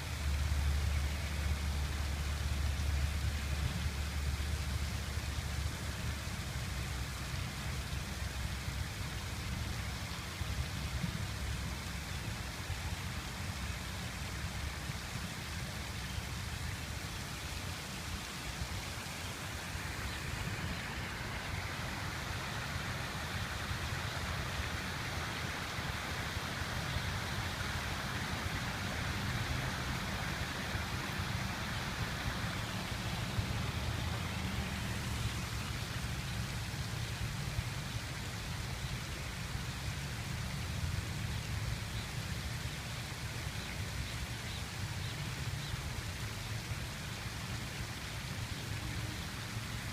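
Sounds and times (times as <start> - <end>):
water fountain splashing: 0.0 - 49.9.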